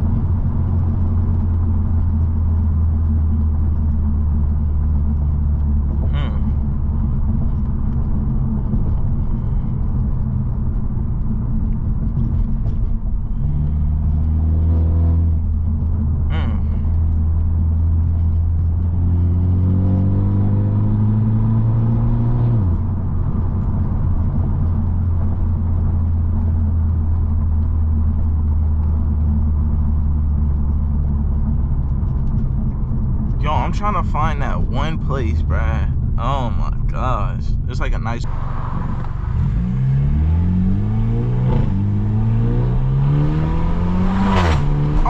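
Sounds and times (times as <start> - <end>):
car engine and exhaust droning: 0.0 - 45.0.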